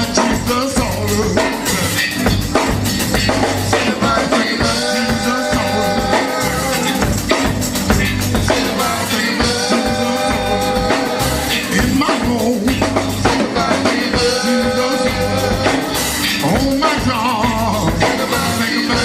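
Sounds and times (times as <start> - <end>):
bass: 0.0 - 19.0
drum kit beat: 0.0 - 19.0
gospel band playing: 0.0 - 19.0
held chords: 0.0 - 19.0.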